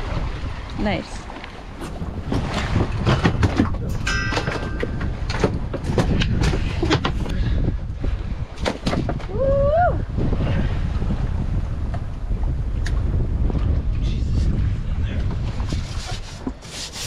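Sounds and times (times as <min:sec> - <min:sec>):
knocks and thumps on a boat: 0:00.0 - 0:09.5, 0:11.8 - 0:17.0
wind noise on microphone: 0:00.0 - 0:17.0.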